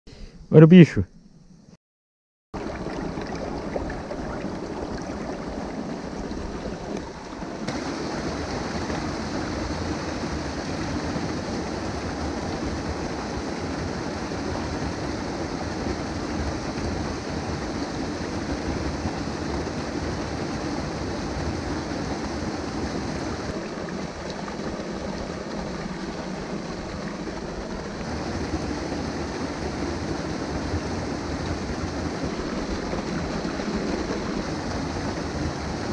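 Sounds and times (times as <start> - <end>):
stream rushing over rocks: 2.6 - 35.9.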